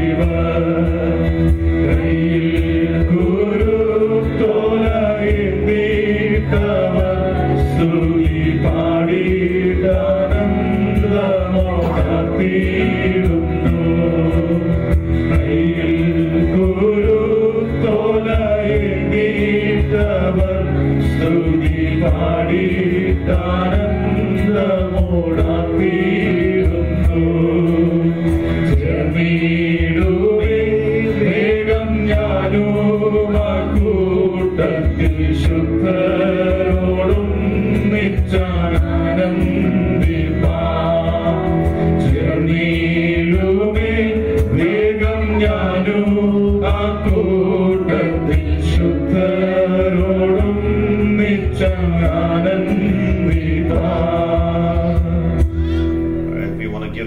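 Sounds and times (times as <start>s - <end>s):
men singing a hymn: 0.0s - 56.2s
instrumental backing: 0.0s - 57.0s.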